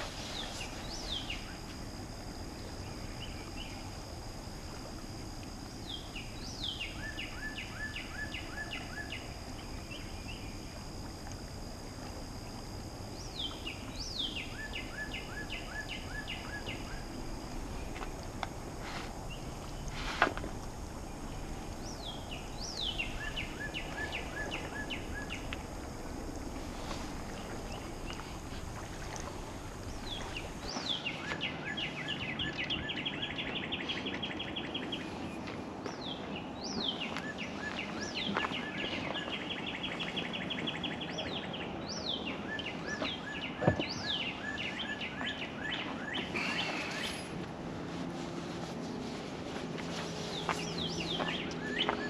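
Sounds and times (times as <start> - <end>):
songbird singing: 0.0 - 47.4, 49.8 - 52.0.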